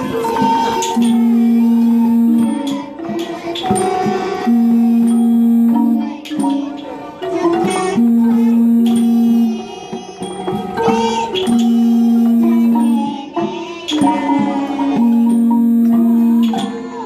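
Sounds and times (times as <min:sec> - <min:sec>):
light percussion: 0:00.0 - 0:17.0.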